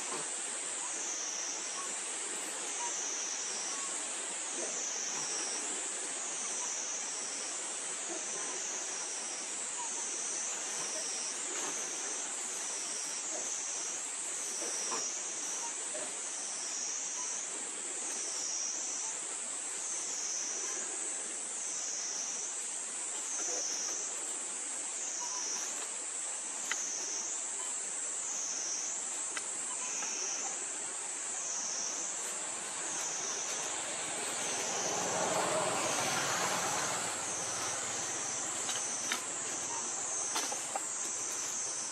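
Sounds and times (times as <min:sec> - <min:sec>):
insects droning: 0:00.0 - 0:41.9
woodland background hiss: 0:00.0 - 0:41.9.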